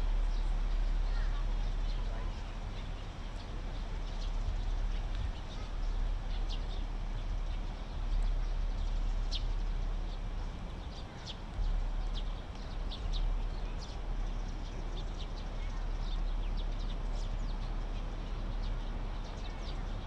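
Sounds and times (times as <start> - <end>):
steady low rumble: 0.0 - 20.0
birds chirping: 0.1 - 20.0.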